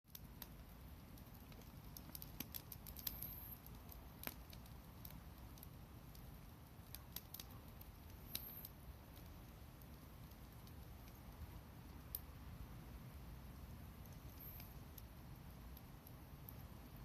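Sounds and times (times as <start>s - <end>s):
low steady hum: 0.1s - 17.0s
wood fire crackling: 0.1s - 17.0s.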